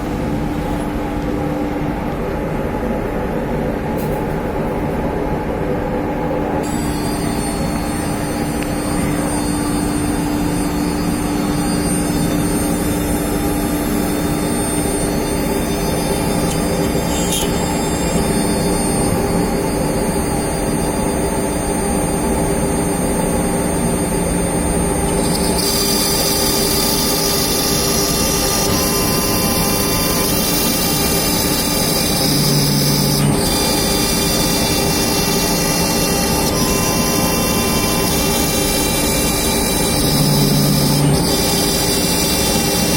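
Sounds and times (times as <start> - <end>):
router spindle whining: 6.6 - 42.9.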